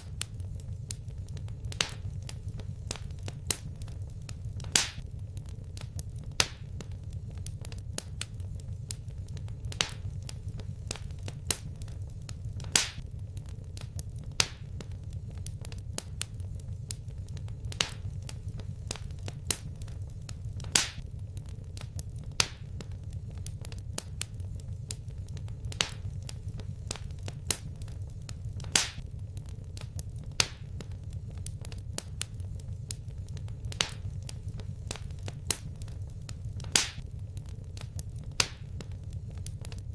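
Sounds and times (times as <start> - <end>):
fire popping: 0.0 - 39.9
low rumble of flames: 0.0 - 39.9
wood fire crackling: 0.0 - 39.9.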